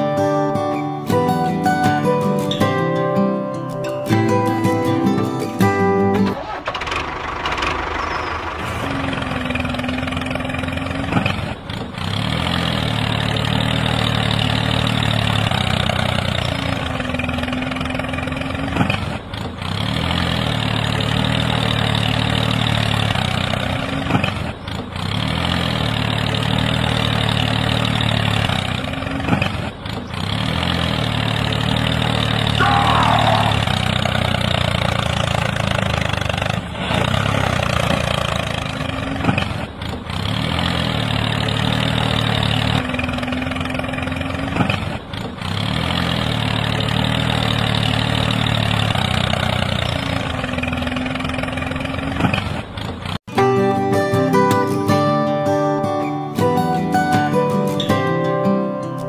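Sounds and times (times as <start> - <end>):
tractor engine idling: 0.0 - 53.7.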